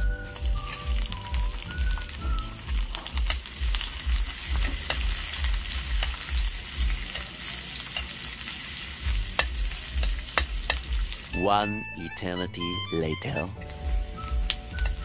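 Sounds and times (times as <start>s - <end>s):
food sizzling in hot oil: 0.0s - 11.4s, 13.6s - 15.0s.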